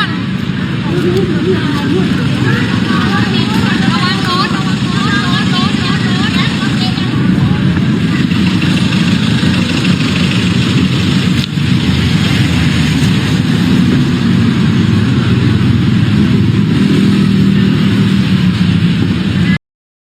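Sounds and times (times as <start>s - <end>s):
road and street noise: 0.0s - 19.6s
vehicle engine humming: 0.0s - 19.6s.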